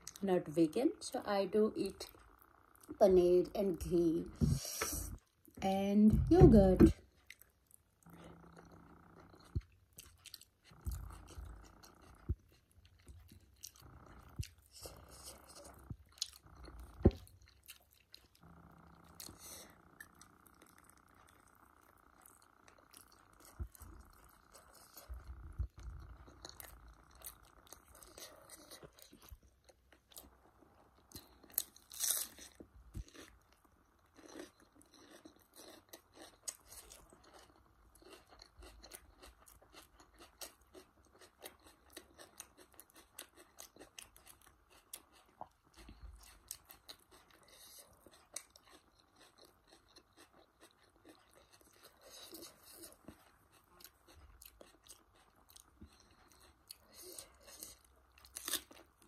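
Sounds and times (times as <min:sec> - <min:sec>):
crunchy chewing of lettuce: 0:07.1 - 0:59.0.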